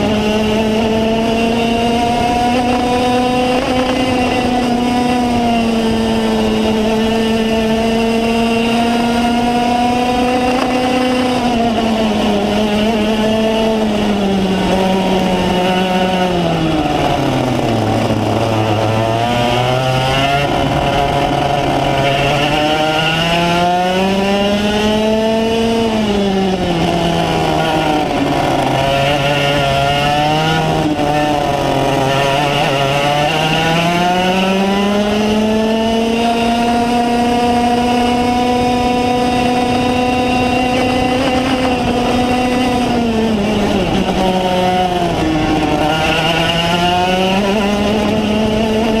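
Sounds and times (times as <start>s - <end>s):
racing kart engine: 0.0s - 49.0s.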